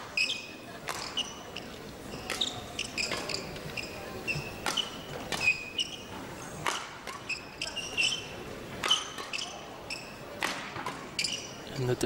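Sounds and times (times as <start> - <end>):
rackets striking shuttlecock: 0.0 - 6.0, 6.6 - 8.2, 8.8 - 11.5
shoes squeaking on court floor: 0.0 - 11.8.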